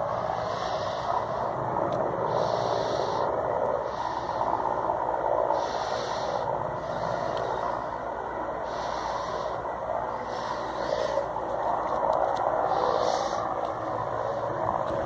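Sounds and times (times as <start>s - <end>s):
distant helicopter hum: 0.0s - 15.0s.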